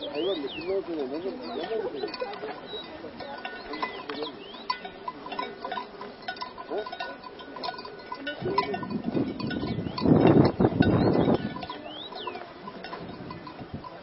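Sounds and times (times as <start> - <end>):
cattle bells clanking: 0.0 - 14.0.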